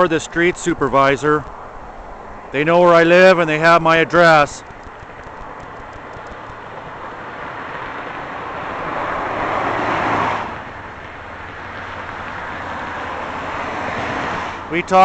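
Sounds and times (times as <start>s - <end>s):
vehicle road noise passing: 0.0s - 15.0s.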